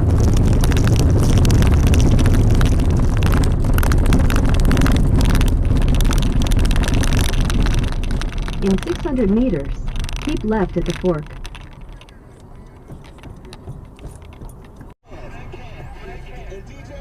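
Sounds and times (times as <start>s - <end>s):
crackling and rattling: 0.0s - 15.0s
car interior rumble: 0.0s - 17.0s.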